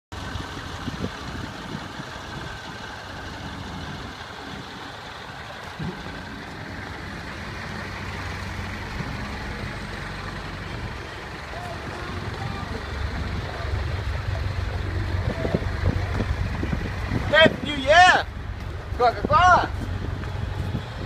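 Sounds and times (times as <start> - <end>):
diesel truck engine idling: 0.1 - 21.0.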